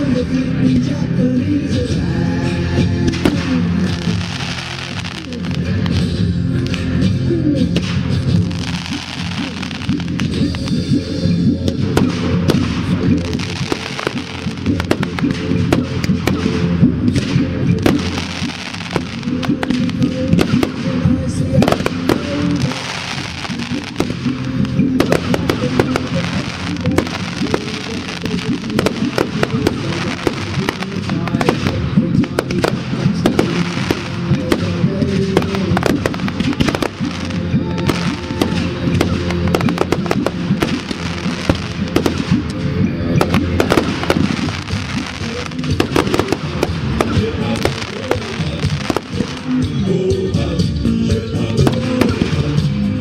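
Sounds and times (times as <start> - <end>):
fireworks bangs and crackles: 0.0 - 53.0
music: 0.0 - 53.0.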